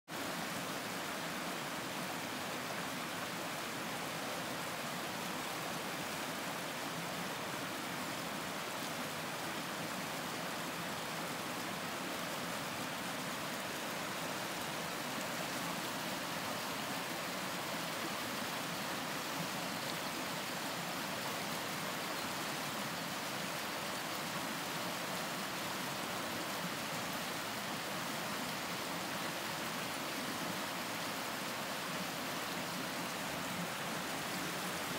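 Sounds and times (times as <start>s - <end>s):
stream running over stones: 0.1s - 34.9s.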